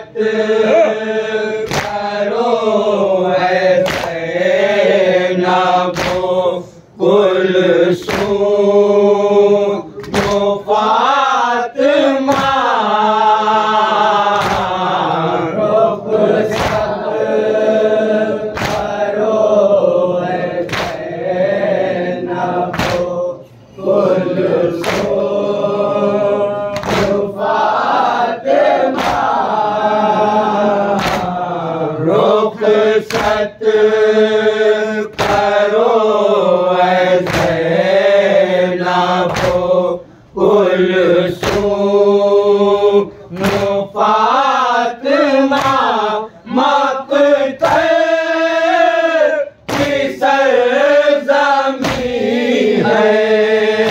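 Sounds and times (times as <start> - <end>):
men chanting in unison: 0.0 - 53.9.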